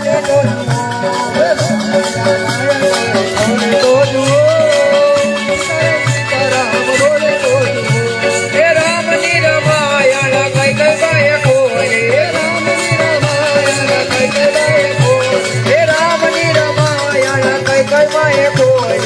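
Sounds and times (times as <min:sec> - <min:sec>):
shaken hand percussion: 0:00.0 - 0:19.0
steady drum beat: 0:00.0 - 0:19.0
wavering melody line: 0:00.0 - 0:19.0.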